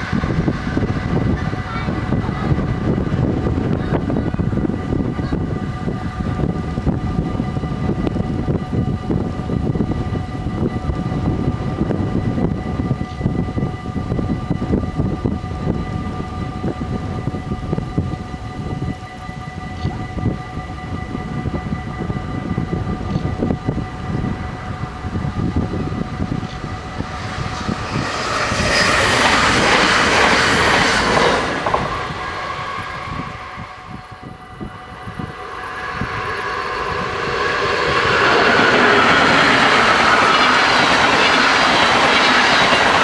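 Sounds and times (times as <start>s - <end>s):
distant trains rumbling: 0.0s - 43.0s
steady high whine: 0.0s - 43.0s.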